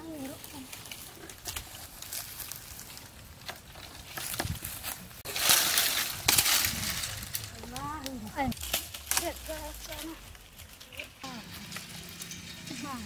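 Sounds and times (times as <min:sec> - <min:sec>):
leafy branches rustling: 0:00.0 - 0:13.0
twigs cracking and snapping: 0:00.1 - 0:12.6.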